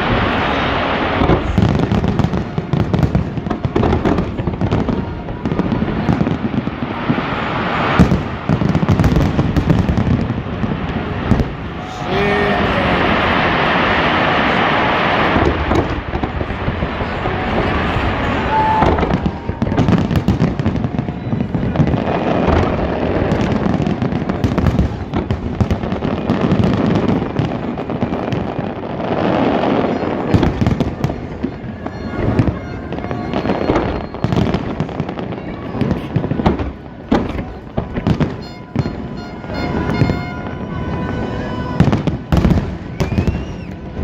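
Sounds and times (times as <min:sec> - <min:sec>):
fireworks booming and crackling: 0:00.0 - 0:44.0.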